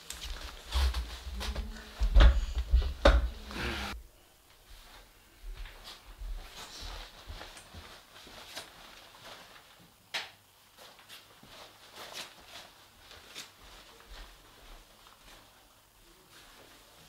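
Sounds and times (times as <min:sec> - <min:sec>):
soft footsteps indoors: 0:00.0 - 0:17.0.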